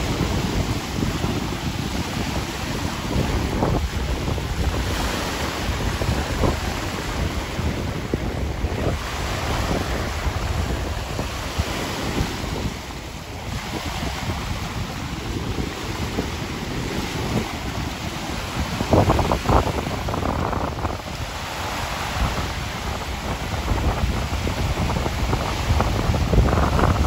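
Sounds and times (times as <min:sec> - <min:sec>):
gusty storm wind buffeting microphone: 0:00.0 - 0:27.0.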